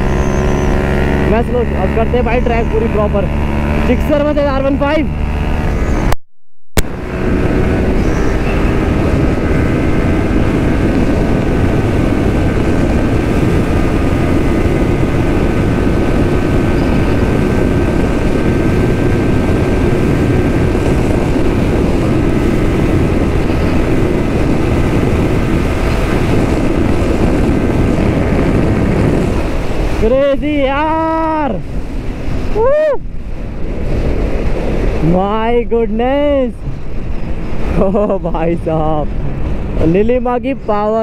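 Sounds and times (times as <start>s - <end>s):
motorcycle engine running: 0.0s - 6.1s, 6.8s - 38.4s
wind rush on microphone: 0.0s - 6.2s, 6.8s - 41.0s.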